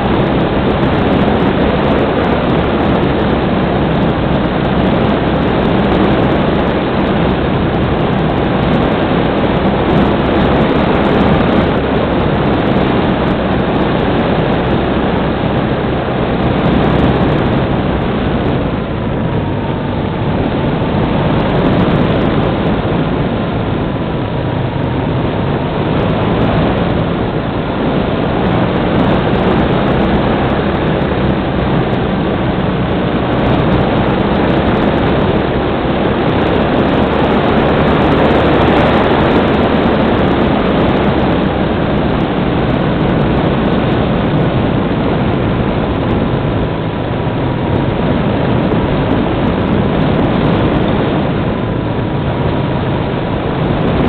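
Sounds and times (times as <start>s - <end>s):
electric motor and propeller whine: 0.0s - 54.0s
wind rushing over microphone: 0.0s - 54.0s.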